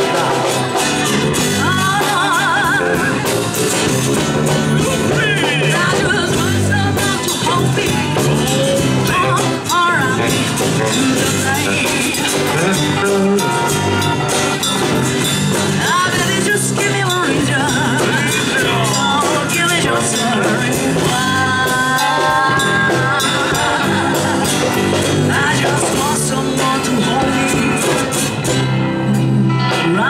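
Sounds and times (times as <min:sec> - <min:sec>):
drum kit: 0:00.0 - 0:30.0
electric bass guitar: 0:00.0 - 0:30.0
person singing with vibrato: 0:00.0 - 0:30.0.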